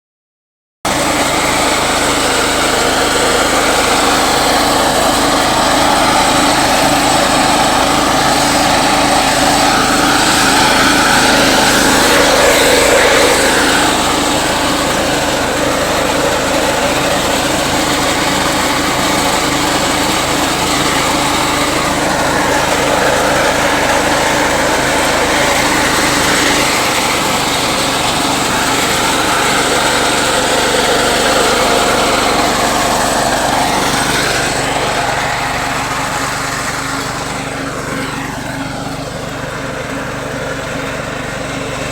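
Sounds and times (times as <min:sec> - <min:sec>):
small engine running: 0:00.9 - 0:41.9.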